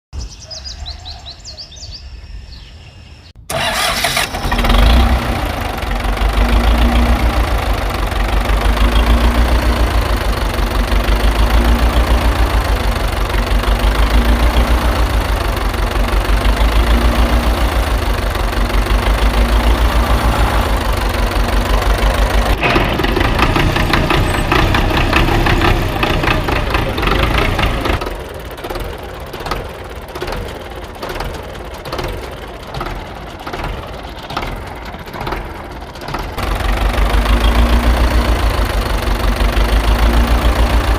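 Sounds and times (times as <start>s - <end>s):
engine starting and chugging: 3.4s - 40.9s.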